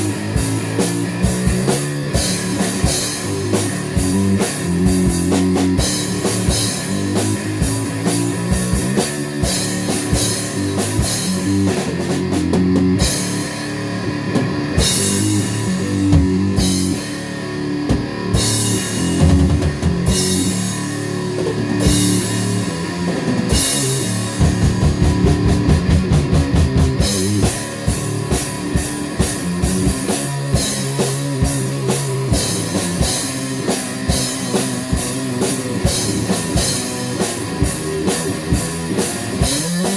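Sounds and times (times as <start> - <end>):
fast drum roll: 0.0 - 13.5, 17.9 - 39.9
rock music: 0.0 - 39.9.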